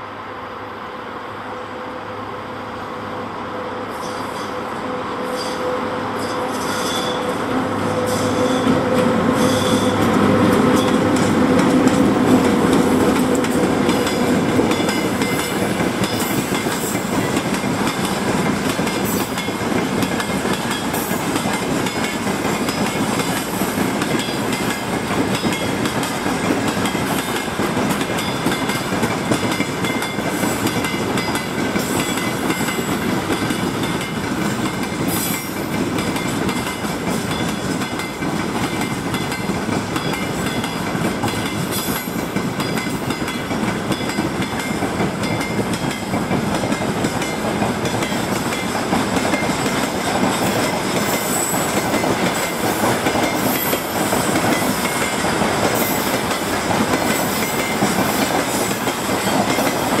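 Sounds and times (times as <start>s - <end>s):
electric locomotive humming: 0.0s - 60.0s
train wheels clicking on rail joints: 5.3s - 60.0s.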